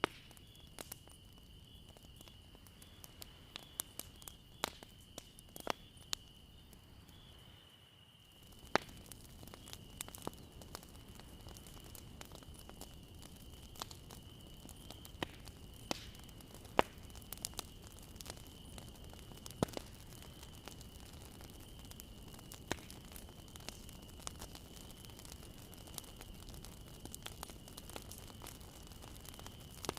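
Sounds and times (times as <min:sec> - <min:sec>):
bonfire crackling and popping: 0:00.0 - 0:29.9.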